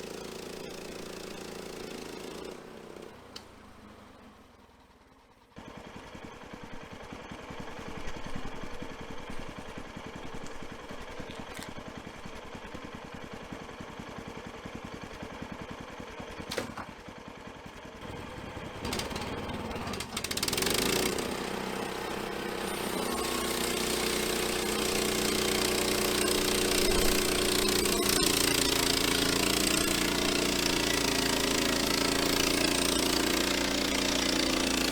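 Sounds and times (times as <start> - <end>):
sawmill engine running: 0.0 - 34.9.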